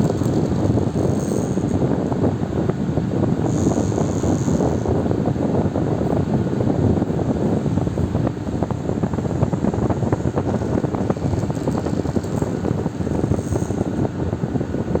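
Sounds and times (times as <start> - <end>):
fan running: 0.0 - 15.0.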